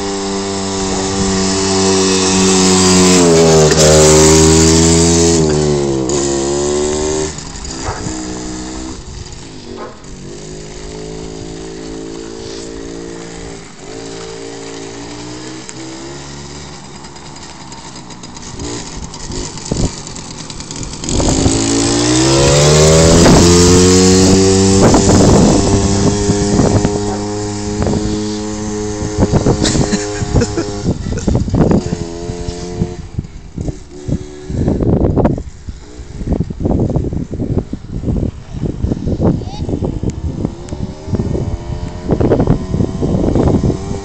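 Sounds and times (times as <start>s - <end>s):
small quad bike engine revving: 0.0s - 44.0s.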